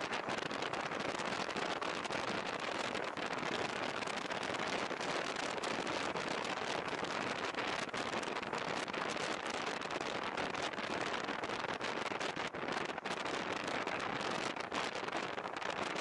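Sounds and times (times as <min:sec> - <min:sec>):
raindrops crackling on camera: 0:00.0 - 0:16.0.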